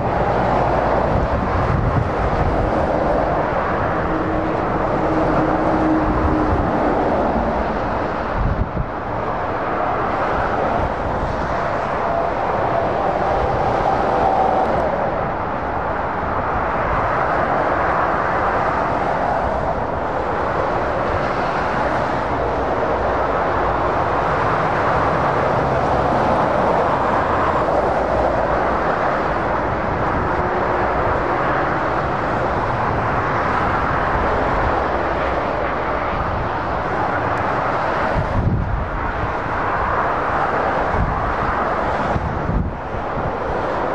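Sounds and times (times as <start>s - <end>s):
motorway traffic roar: 0.0s - 43.9s.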